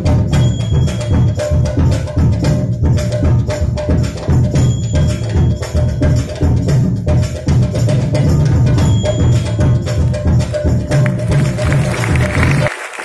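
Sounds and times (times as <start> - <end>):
barrel drum beating fast: 0.0 - 12.7.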